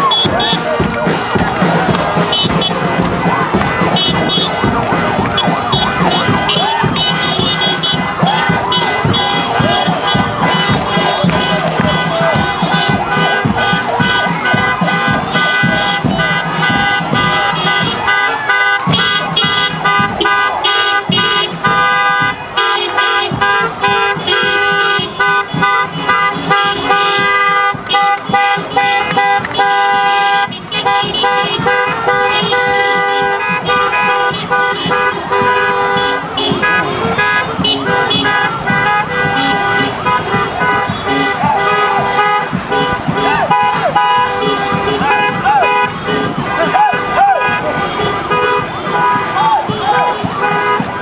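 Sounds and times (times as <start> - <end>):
car horns honking: 0.0 - 51.0.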